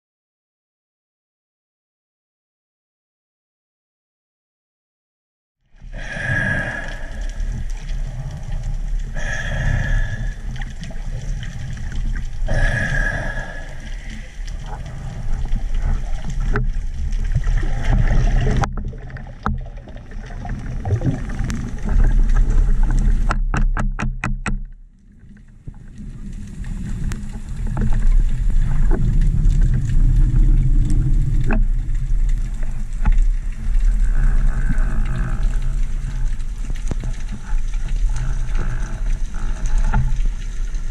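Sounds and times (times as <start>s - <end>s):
underwater low rumble: 5.6s - 40.9s.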